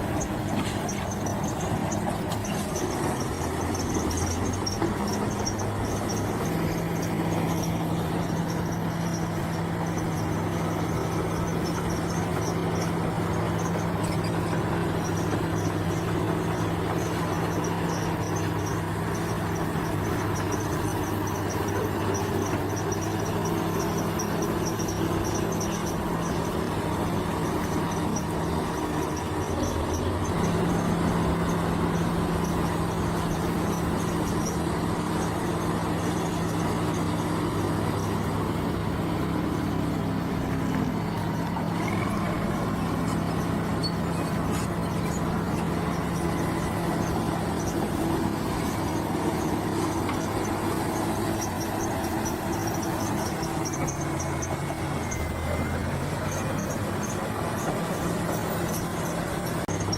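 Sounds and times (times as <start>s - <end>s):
bulldozer diesel engine running: 0.0s - 59.9s
insects chirping: 0.0s - 59.9s.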